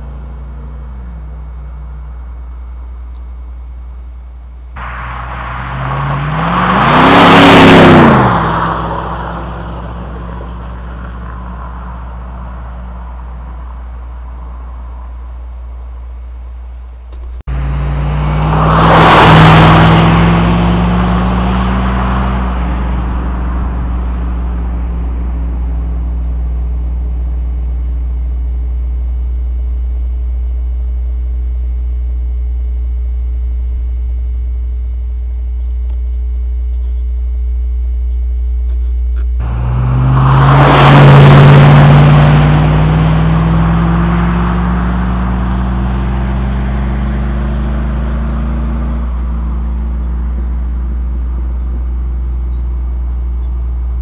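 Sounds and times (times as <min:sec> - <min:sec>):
truck engine exhaust drone: 0:00.0 - 0:54.0.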